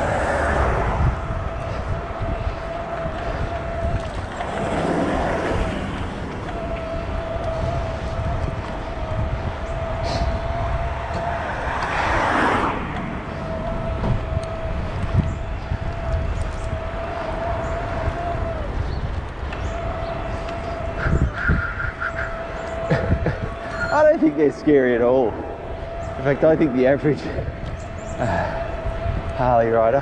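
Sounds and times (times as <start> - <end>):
passing vehicles: 0.0 - 30.0
wind rumbling on microphone: 0.0 - 30.0.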